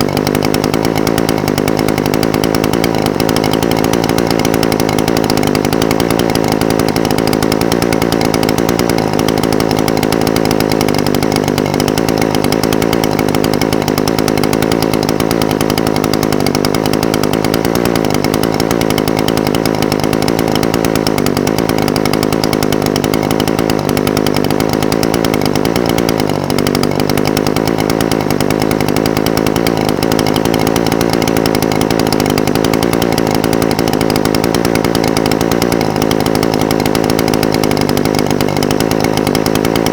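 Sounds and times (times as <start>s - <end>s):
brush cutter engine idling: 0.0s - 39.9s.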